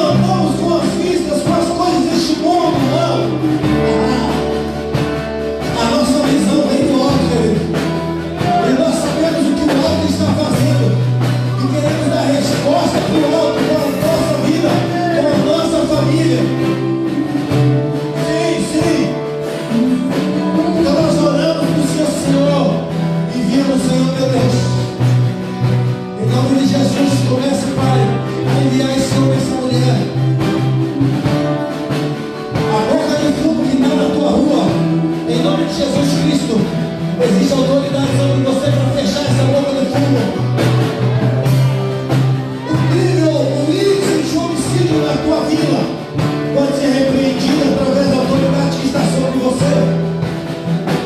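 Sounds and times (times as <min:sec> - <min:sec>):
person singing: 0:00.0 - 0:25.3, 0:26.1 - 0:50.2
drum hits: 0:00.0 - 0:51.0
guitar: 0:00.0 - 0:51.0
held bass notes: 0:00.0 - 0:51.0.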